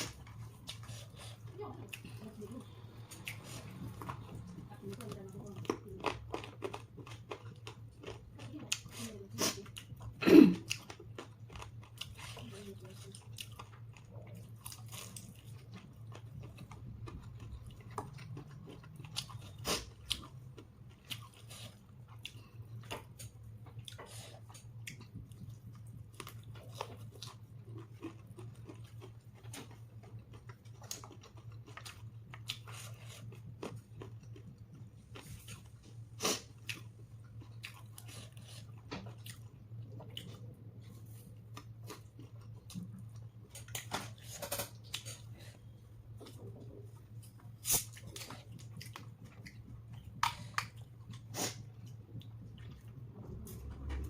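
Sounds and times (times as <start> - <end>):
person chewing crispy food: 0.0 - 54.0
steady low hum: 0.0 - 54.0.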